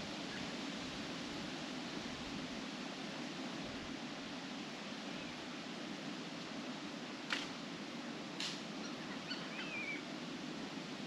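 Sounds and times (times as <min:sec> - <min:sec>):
wind rustling tree leaves: 0:00.0 - 0:11.0.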